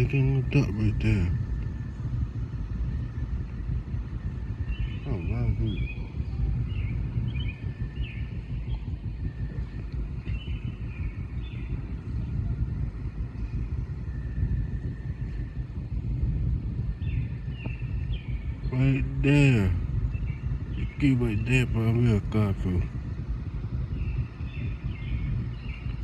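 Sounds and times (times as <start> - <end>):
low uneven rumble: 0.0 - 26.0.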